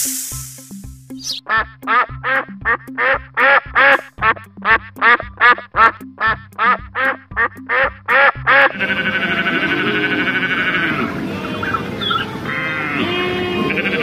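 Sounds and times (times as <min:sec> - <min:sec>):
background music with bass: 0:00.0 - 0:14.0
duck quacking: 0:01.2 - 0:14.0.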